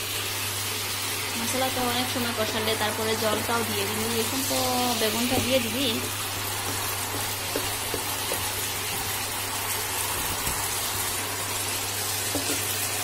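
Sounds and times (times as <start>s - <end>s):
gravy sizzling and bubbling in pan: 0.0s - 13.0s.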